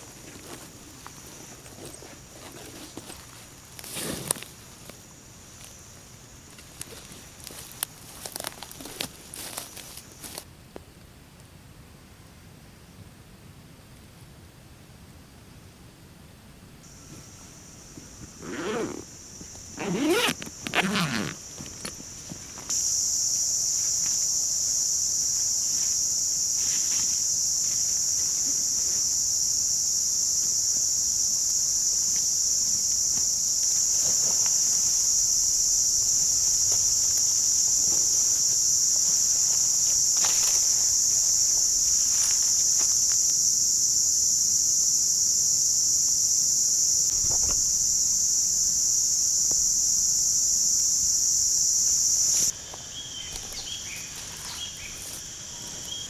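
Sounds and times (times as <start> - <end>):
insects shrilling: 0.0 - 10.4, 16.9 - 56.0.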